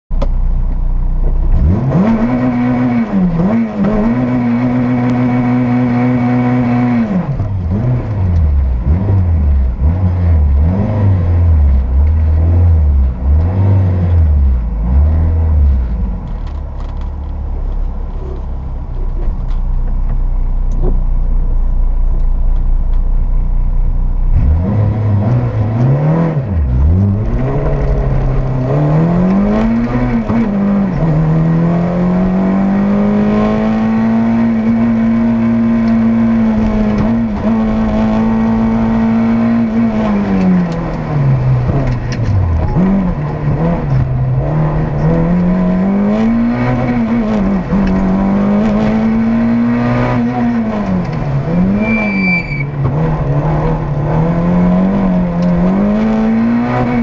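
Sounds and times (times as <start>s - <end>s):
car engine revving: 0.2s - 57.0s.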